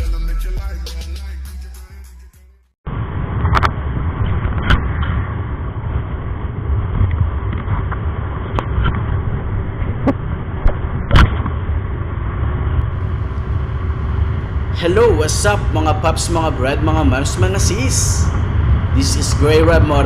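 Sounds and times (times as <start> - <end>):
low microphone rumble: 2.9 - 20.0
scooter wind and road noise: 3.5 - 20.0.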